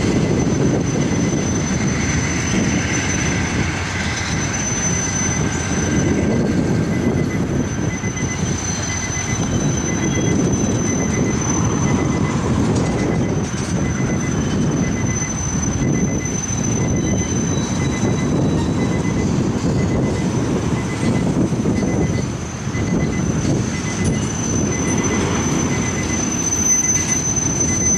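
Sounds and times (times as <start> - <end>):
freight train rumbling past: 0.0 - 27.9
high-pitched whine: 0.0 - 27.9.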